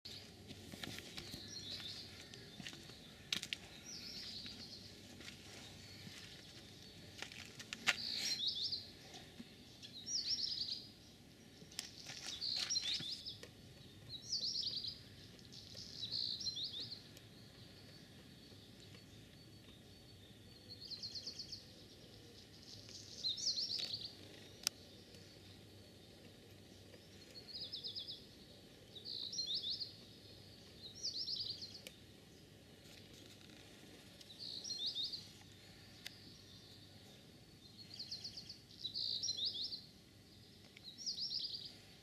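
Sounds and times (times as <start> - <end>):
outdoor background noise: 0.0 - 42.0
small bird singing: 0.1 - 42.0.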